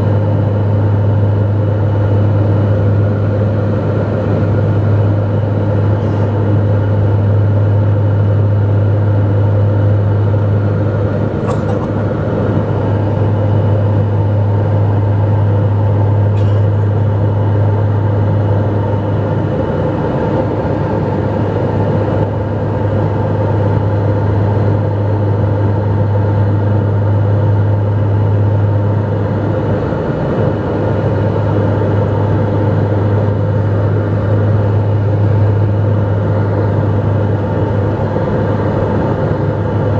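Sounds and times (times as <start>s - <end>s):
engine and airflow noise: 0.0s - 39.9s
propeller drone: 0.0s - 39.9s.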